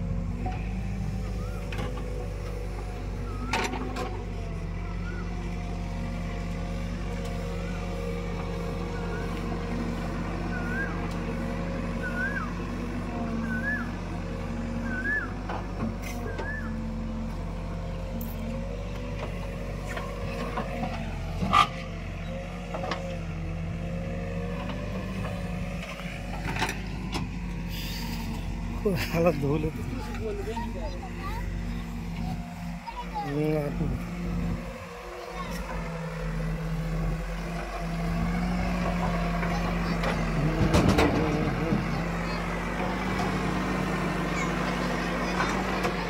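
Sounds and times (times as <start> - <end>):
backhoe digging earth: 0.0 - 46.0
diesel engines running: 0.0 - 46.0.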